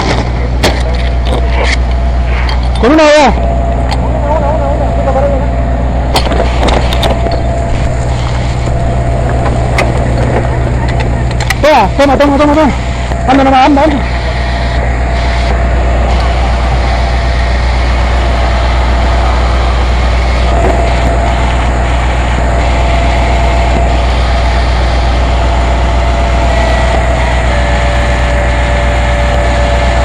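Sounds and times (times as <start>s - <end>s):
fire truck engine rumbling: 0.0s - 30.0s.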